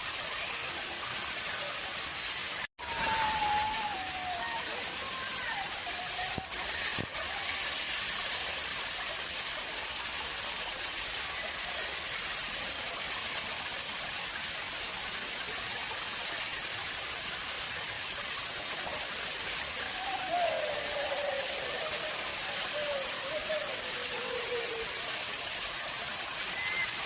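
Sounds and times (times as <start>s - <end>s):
water splashing into pond: 0.0s - 27.0s.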